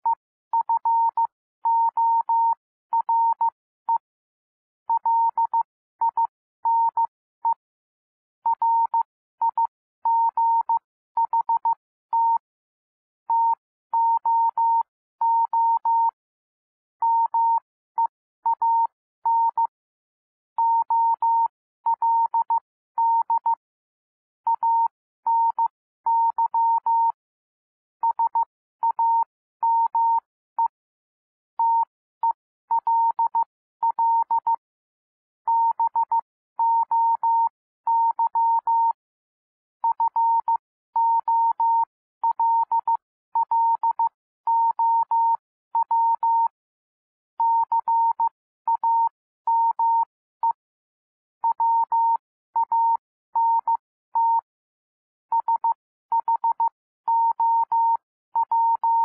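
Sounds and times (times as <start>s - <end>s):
morse code beeps: 0.0s - 4.0s, 4.9s - 7.6s, 8.5s - 12.4s, 13.3s - 16.2s, 17.0s - 19.7s, 20.6s - 23.6s, 24.5s - 27.2s, 28.0s - 30.8s, 31.6s - 34.6s, 35.5s - 39.0s, 39.8s - 46.6s, 47.4s - 50.6s, 51.4s - 54.5s, 55.3s - 59.0s.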